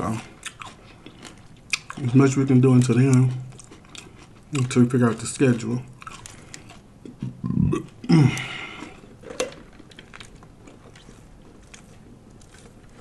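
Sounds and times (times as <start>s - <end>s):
chewing and mouth sounds: 0.0s - 13.0s.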